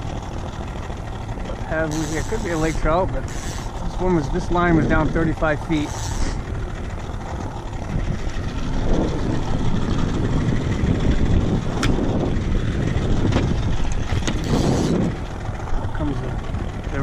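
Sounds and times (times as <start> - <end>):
outboard motor running: 0.0 - 17.0
wind buffeting microphone: 0.0 - 17.0.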